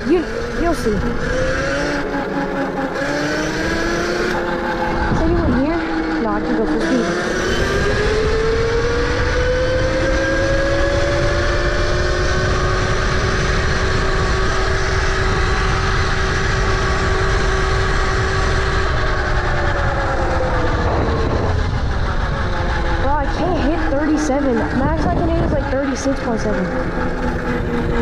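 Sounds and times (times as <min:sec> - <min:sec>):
low rumble: 0:00.0 - 0:10.0, 0:10.6 - 0:28.0
electric motor whining: 0:00.0 - 0:28.0.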